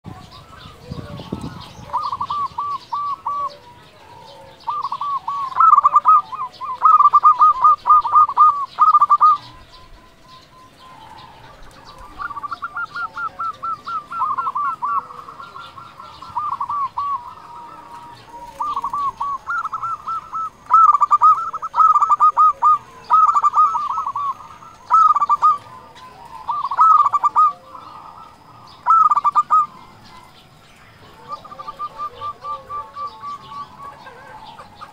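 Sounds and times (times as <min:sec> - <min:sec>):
dove cooing: 0:00.0 - 0:34.9.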